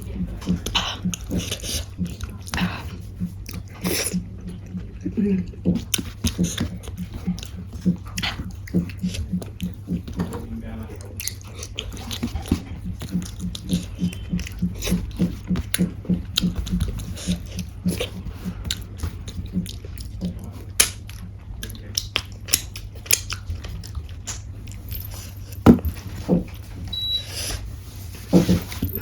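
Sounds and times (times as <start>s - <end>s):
close chewing with mouth smacks: 0.0s - 27.7s.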